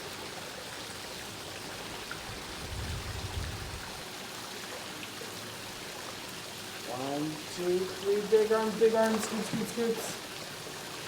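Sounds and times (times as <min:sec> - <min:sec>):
water splashing in a pool: 0:00.0 - 0:11.0.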